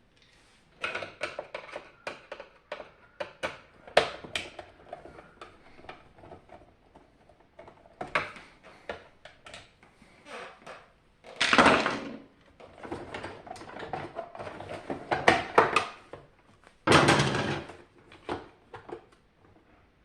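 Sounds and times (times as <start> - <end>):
plastic parts clicking and knocking: 0.8 - 9.9, 10.6 - 19.2.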